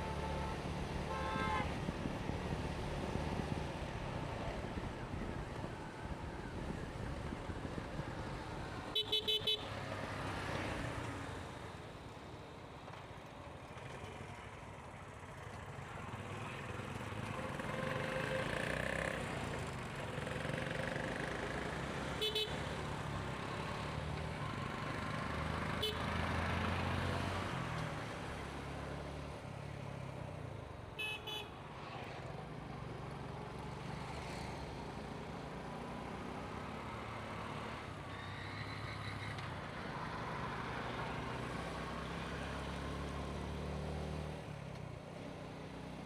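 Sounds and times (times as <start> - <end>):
road and traffic noise: 0.0 - 46.0.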